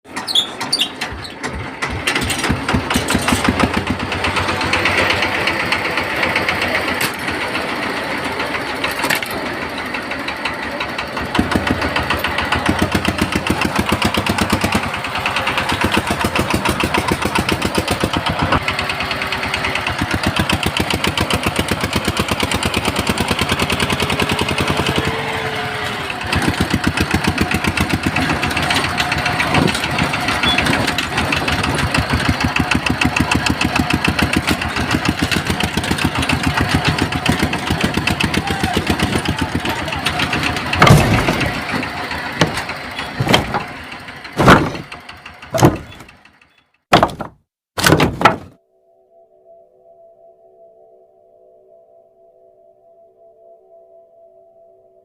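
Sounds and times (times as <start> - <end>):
vehicle engine chugging: 0.1 - 47.2.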